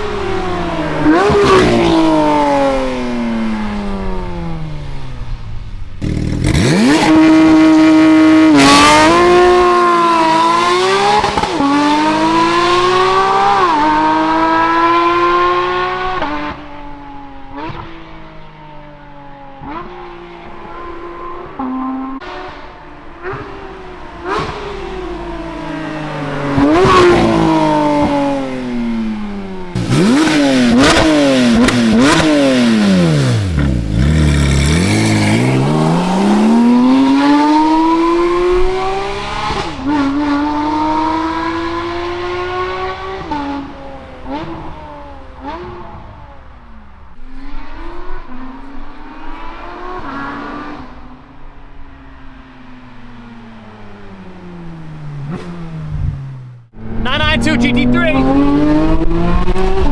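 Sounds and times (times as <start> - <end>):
car engine revving through gearshifts: 0.0 - 5.0, 6.0 - 51.5, 52.1 - 57.1, 57.8 - 59.9.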